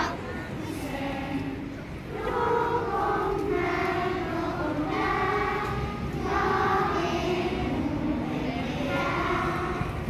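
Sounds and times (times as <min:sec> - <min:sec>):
children singing together: 0:00.0 - 0:10.0
crowd murmur: 0:00.0 - 0:10.0.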